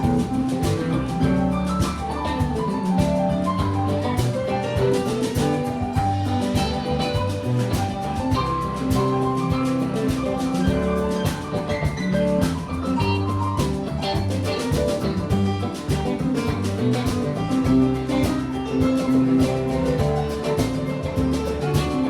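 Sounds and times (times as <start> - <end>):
band playing instrumental: 0.0 - 22.0
guitar: 0.0 - 22.0
steady drum beat: 0.0 - 22.0.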